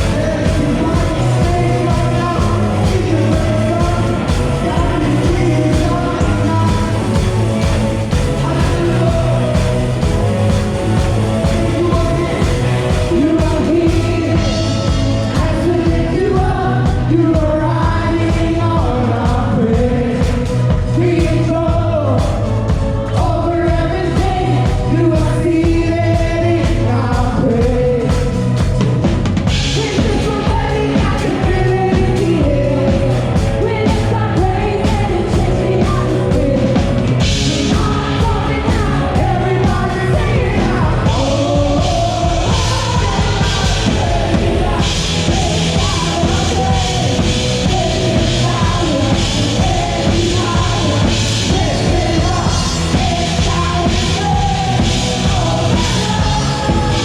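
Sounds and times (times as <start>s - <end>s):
singing: 0.0s - 28.9s, 29.5s - 57.0s
band playing rock music: 0.0s - 57.0s
driving drum beat: 0.0s - 57.0s.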